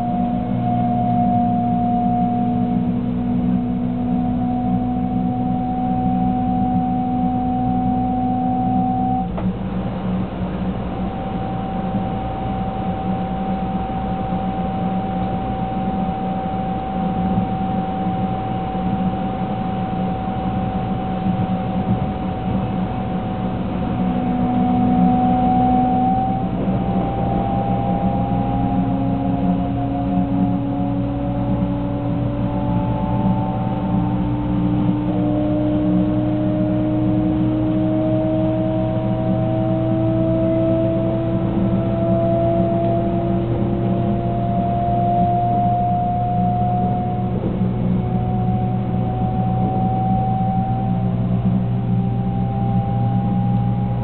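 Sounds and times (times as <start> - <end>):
electric traction motor whine: 0.0 - 54.0
low rumble of running train: 0.0 - 54.0.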